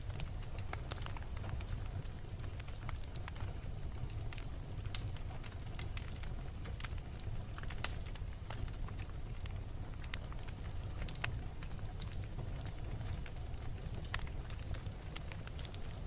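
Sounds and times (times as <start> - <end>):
logs crackling and popping: 0.0 - 16.0
low rumble of flame: 0.0 - 16.0.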